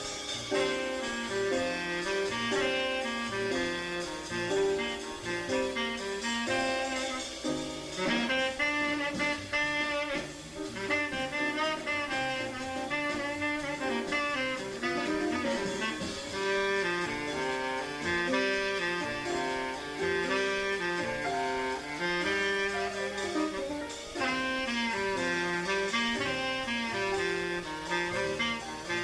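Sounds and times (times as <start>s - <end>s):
jazz tenor saxophone: 0.0s - 29.0s
stepping bass line: 0.0s - 29.0s.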